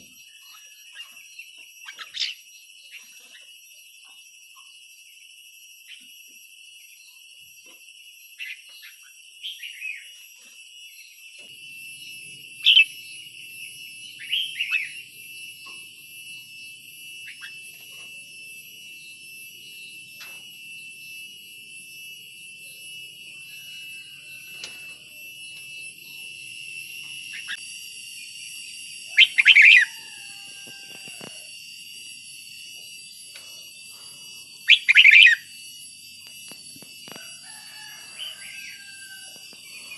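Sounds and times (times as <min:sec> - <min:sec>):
steady high-pitched drone: 0:00.0 - 0:39.9.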